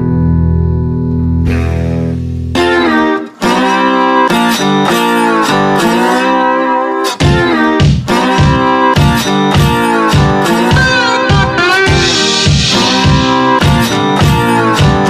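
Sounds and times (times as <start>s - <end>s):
guitar playing plucked melody: 0.0s - 15.0s.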